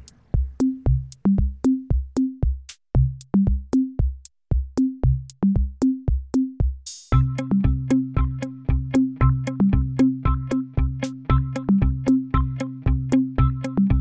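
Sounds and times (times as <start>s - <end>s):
electronic drum machine beat: 0.0s - 14.0s.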